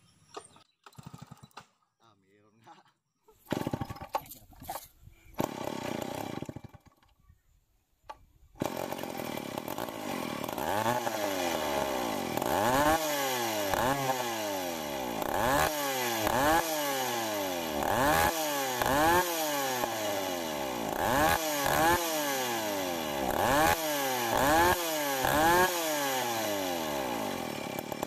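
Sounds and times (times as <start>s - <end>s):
chainsaw engine revving: 0.8s - 1.7s, 3.4s - 7.1s, 8.6s - 28.0s.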